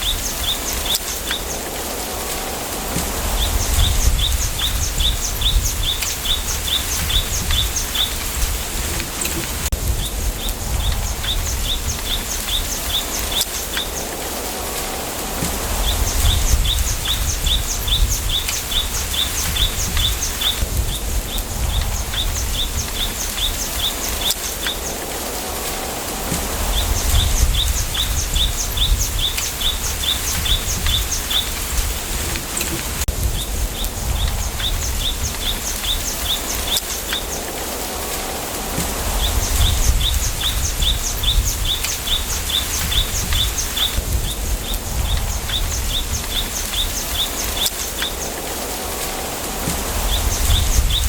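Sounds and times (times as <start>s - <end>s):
low wind rumble: 0.0s - 51.0s
outdoor hiss: 0.0s - 51.0s.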